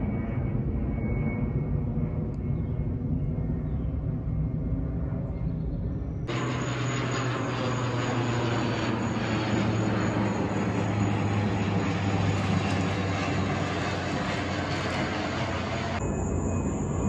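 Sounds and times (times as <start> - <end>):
turboprop airliner flying overhead: 0.0 - 17.0.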